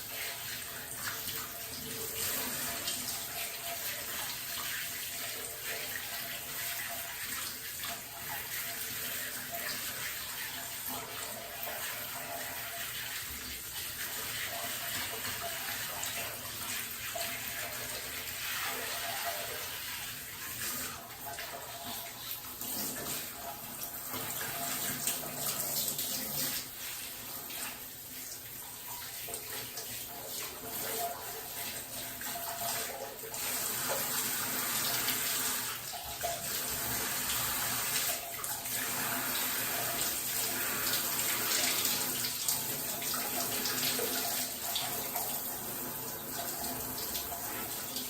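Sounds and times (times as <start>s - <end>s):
water pouring and splashing: 0.0s - 48.0s.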